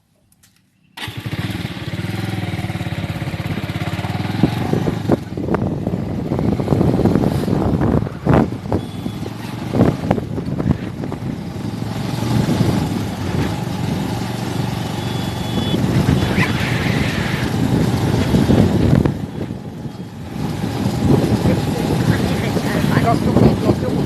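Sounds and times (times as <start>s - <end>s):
motorcycle engine running: 0.9s - 24.0s.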